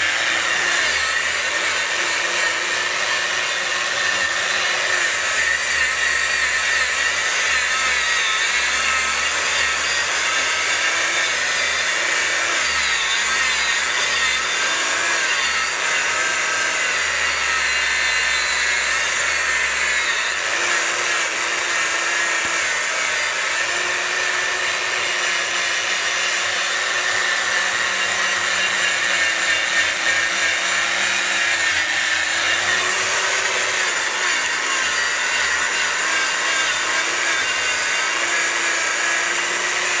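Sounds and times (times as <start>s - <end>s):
abrasive rasping on wood: 0.0s - 40.0s
angle grinder whine: 0.0s - 40.0s.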